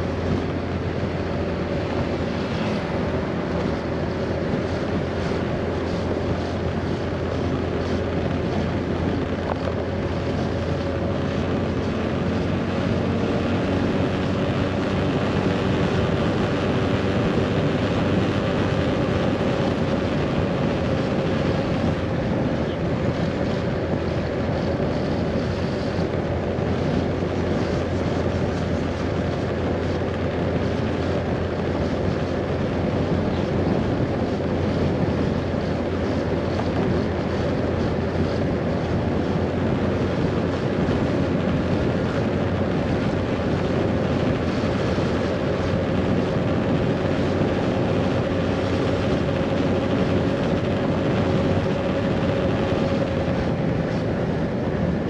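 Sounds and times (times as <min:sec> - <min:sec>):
road noise: 0:00.0 - 0:55.0
wind rush on microphone: 0:00.0 - 0:55.0.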